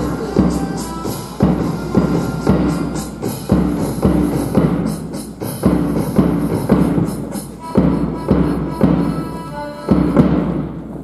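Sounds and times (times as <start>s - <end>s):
march music: 0.0s - 11.0s
steady drum beat: 0.0s - 11.0s.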